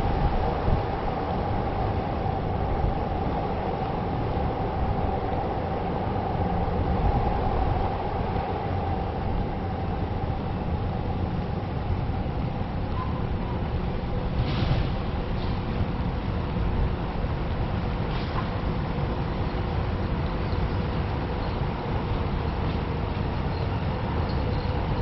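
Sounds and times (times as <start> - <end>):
steady high hum: 0.0 - 20.4
rumble of street traffic: 0.0 - 25.0.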